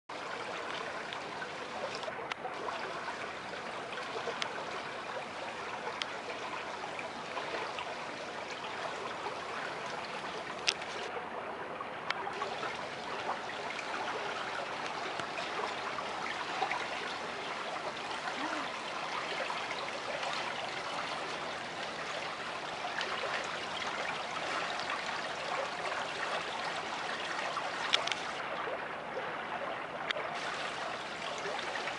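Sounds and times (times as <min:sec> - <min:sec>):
running water: 0:00.1 - 0:31.9.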